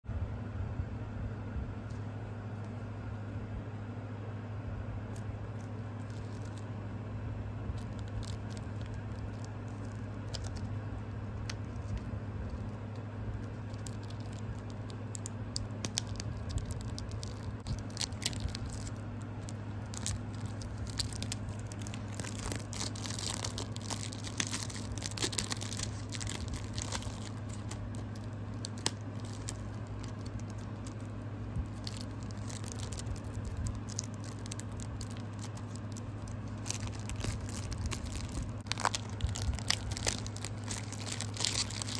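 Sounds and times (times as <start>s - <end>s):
low hum: 0.0s - 41.9s
plastic wrapping crinkling: 5.1s - 6.7s, 7.7s - 41.9s.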